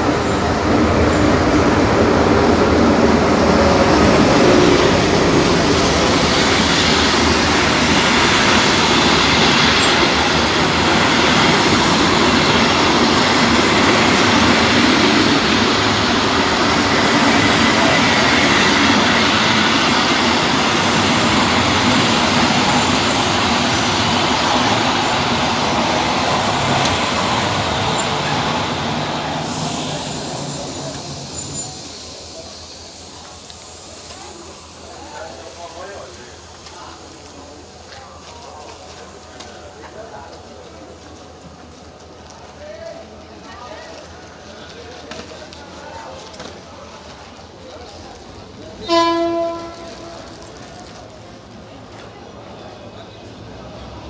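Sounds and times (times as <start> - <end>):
train cars running on track: 0.0 - 54.0.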